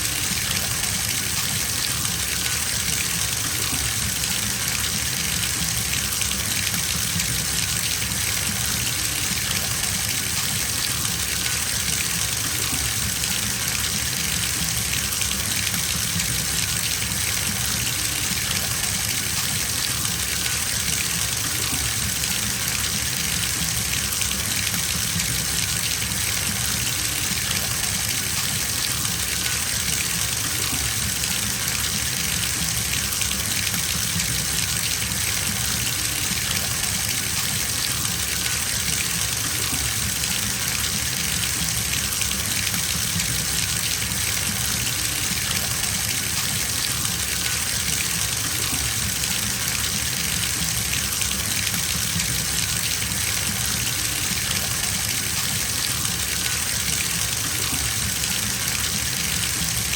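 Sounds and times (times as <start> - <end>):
water pouring into bathtub: 0.0 - 59.9.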